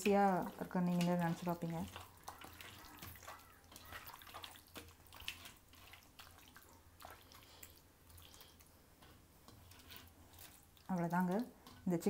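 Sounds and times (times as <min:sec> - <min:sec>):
wet squelches and scrapes: 0:00.0 - 0:12.0.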